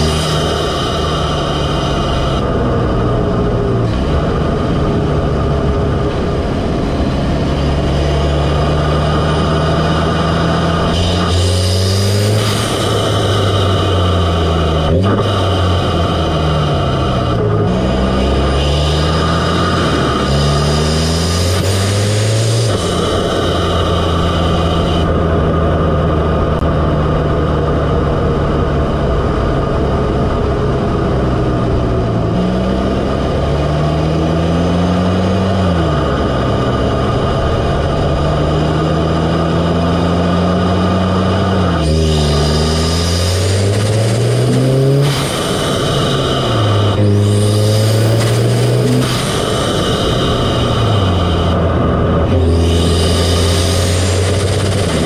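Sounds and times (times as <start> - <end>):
car engine revving: 0.0 - 55.0
turbo induction rush: 0.0 - 55.0.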